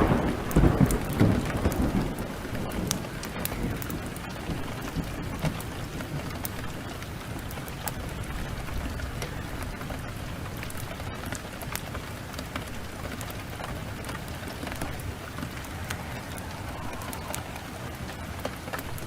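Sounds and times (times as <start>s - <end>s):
heavy rain pouring: 0.0s - 19.0s
wood fire crackling: 0.0s - 19.0s.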